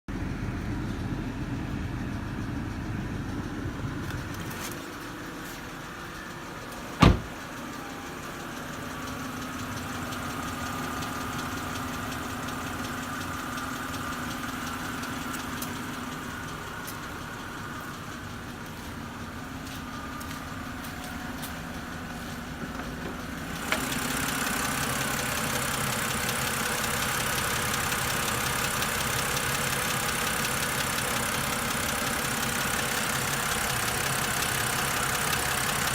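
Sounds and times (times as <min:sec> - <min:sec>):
car engine idling with ticking: 0:00.1 - 0:35.9.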